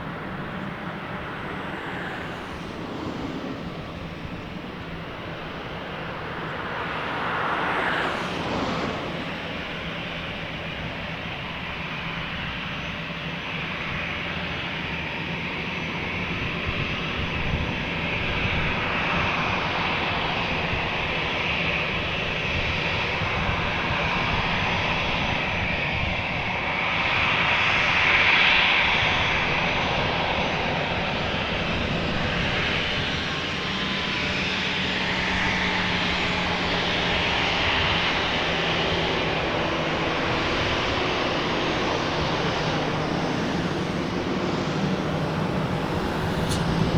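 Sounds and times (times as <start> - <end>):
jet airliner engine roar: 0.0 - 46.9.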